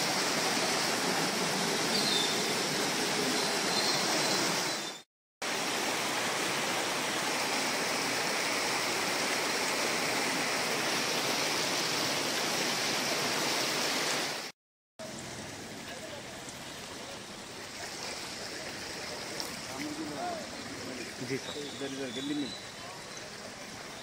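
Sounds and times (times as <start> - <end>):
floodwater rushing through drain: 0.0 - 4.8, 5.4 - 24.0.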